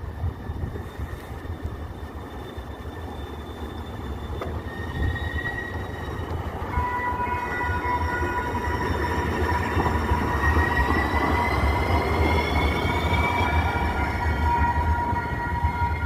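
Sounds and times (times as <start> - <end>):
light rail train rumble: 0.0 - 16.0
high-pitched whining tones: 0.1 - 16.0.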